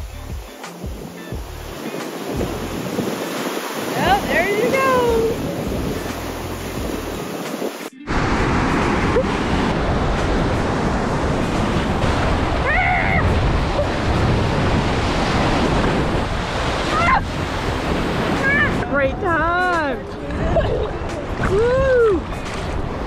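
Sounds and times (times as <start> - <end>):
ocean surf breaking: 0.0 - 23.0
wind buffeting: 1.7 - 23.0.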